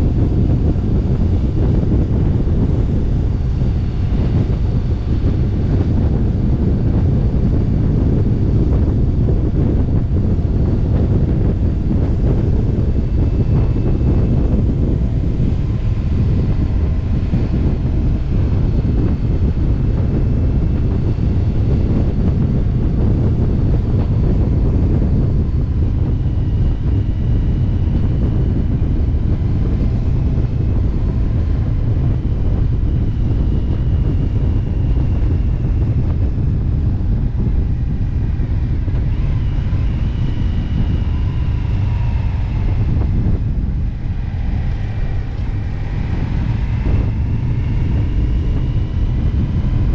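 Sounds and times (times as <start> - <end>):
motorcycle engine drone: 0.0 - 49.9
wind rushing over microphone: 0.0 - 49.9.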